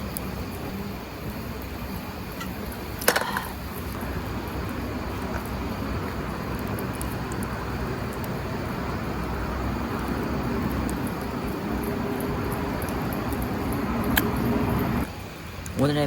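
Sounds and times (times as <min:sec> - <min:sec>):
background rumble: 0:00.0 - 0:15.2.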